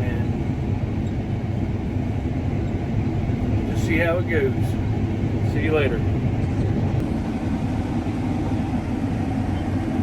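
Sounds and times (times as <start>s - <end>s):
combine harvester running: 0.0s - 10.0s.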